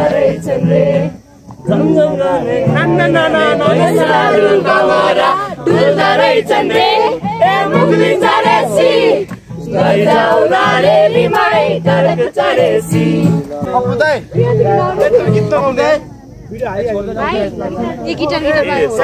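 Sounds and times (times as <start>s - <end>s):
group singing: 0.0s - 16.0s
acoustic guitar: 0.0s - 19.0s.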